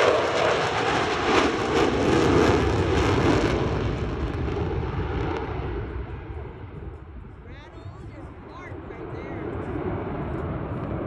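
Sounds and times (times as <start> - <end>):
jet roar passing: 0.0 - 7.4, 8.2 - 11.0.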